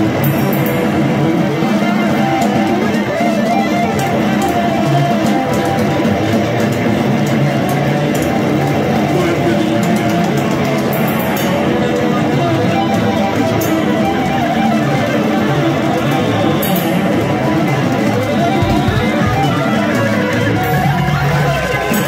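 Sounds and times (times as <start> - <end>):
loud guitar-driven music: 0.0 - 22.0.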